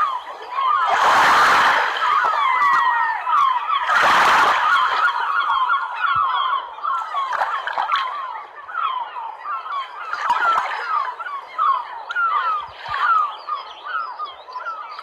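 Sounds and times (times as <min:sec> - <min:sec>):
water birds calling: 0:00.0 - 0:15.0.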